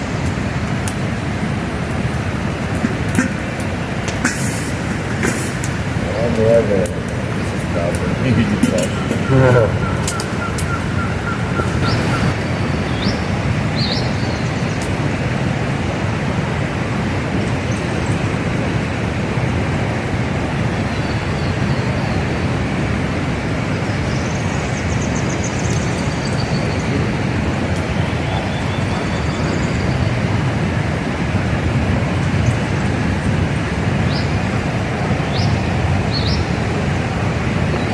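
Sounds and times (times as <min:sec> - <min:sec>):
river rapids rushing: 0:00.0 - 0:37.9.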